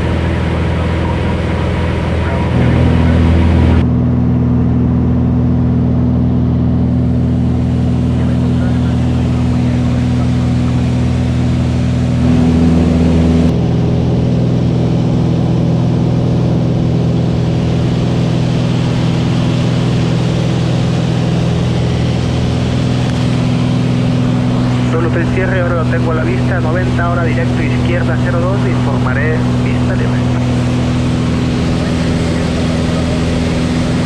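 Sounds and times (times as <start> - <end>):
airplane engine and propeller: 0.0 - 34.0.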